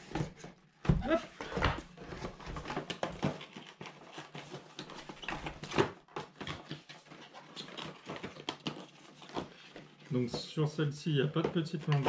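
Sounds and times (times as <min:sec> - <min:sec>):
cardboard box rustling and scraping: 0:00.0 - 0:10.6.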